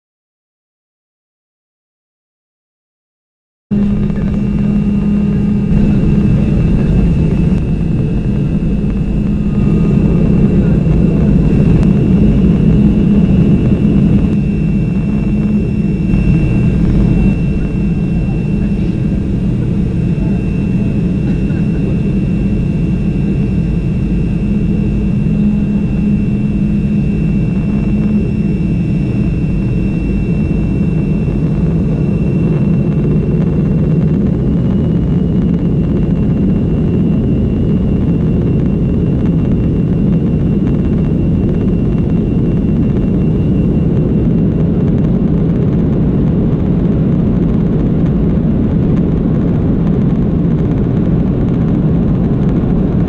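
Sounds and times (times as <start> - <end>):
jet engines rumbling with whine: 3.7 - 53.0.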